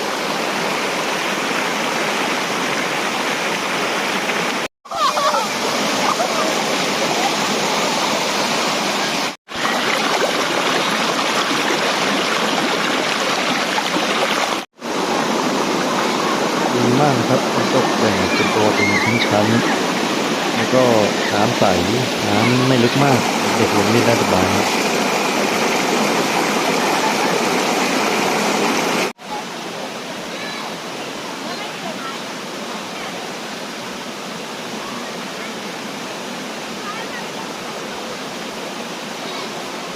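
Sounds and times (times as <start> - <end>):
water rushing over waterfall: 0.0 - 39.9.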